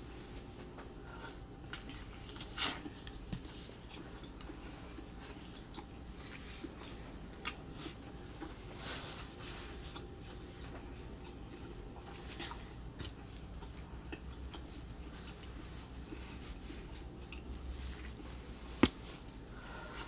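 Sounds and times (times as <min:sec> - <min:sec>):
person chewing: 0:01.2 - 0:20.0.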